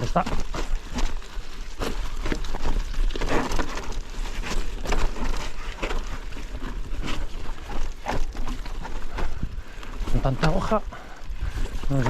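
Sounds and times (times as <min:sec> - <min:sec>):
bike tyres crunching dry leaves: 0:00.0 - 0:12.0.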